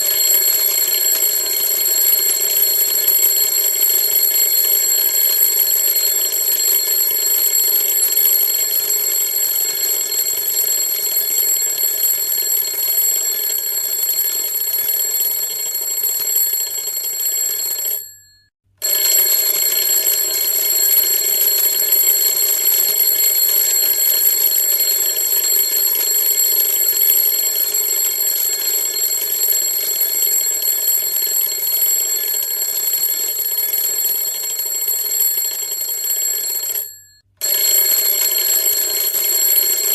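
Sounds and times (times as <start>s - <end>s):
alarm clock ringing: 0.0s - 39.9s.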